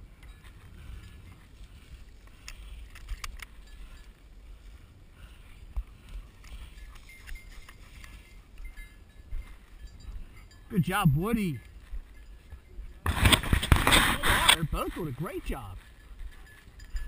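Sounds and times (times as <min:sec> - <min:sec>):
footsteps through dry grass: 0:00.0 - 0:17.0.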